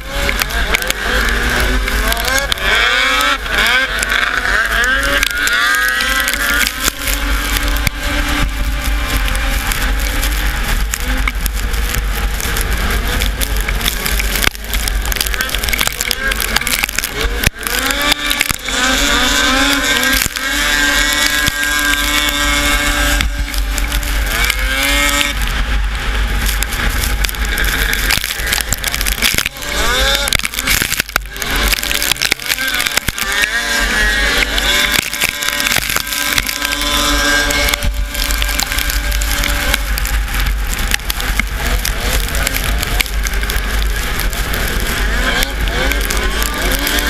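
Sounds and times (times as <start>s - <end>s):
snowmobile engine revving: 0.0s - 47.0s.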